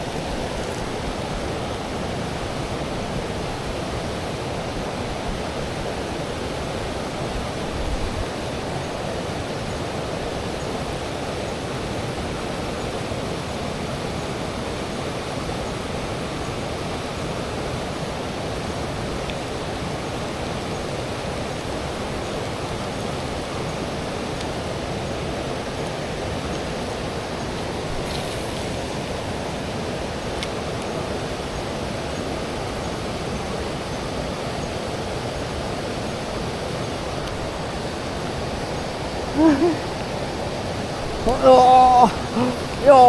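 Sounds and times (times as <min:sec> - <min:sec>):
river water flowing: 0:00.0 - 0:43.0.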